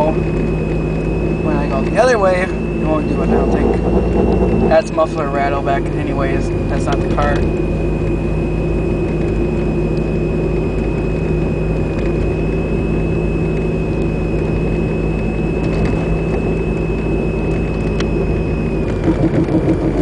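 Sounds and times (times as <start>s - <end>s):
engine and road hum in car: 0.0s - 20.0s
high-pitched whine: 0.0s - 20.0s.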